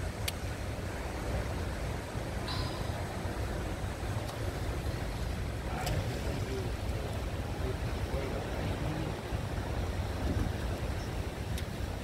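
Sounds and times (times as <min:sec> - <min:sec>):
wind and rough water rumble: 0:00.0 - 0:12.0.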